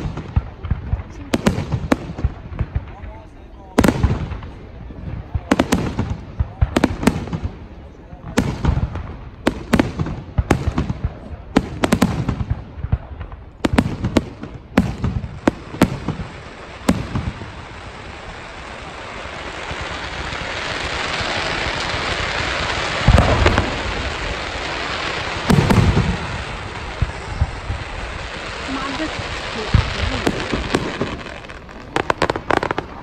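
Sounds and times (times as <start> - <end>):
deep firework booms: 0.0 - 33.0
firework fountains crackling hiss: 0.0 - 33.0.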